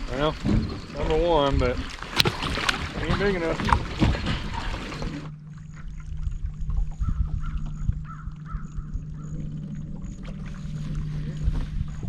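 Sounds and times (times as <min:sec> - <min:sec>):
steady low hum: 0:02.0 - 0:12.0.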